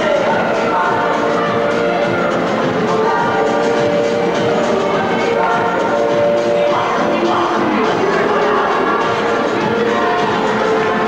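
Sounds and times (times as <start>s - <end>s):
latin dance music: 0.0s - 11.0s.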